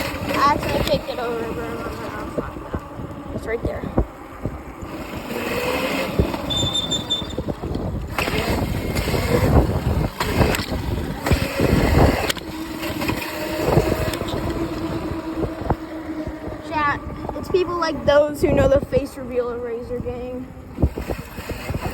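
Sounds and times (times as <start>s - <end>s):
electric motor whine: 0.0s - 21.9s
wind buffeting microphone: 0.0s - 21.9s.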